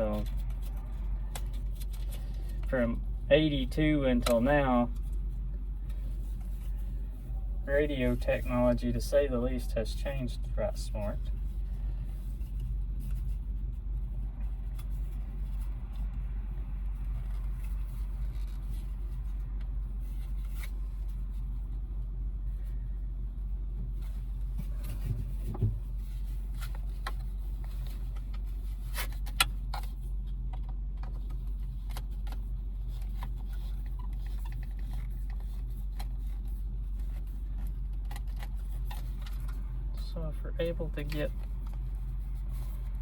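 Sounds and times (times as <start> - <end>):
low mechanical rumble: 0.0 - 43.0.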